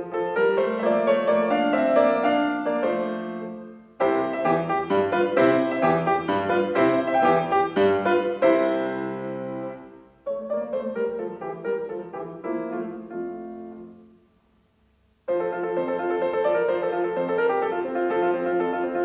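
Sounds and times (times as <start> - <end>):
solo piano music: 0.0 - 19.0.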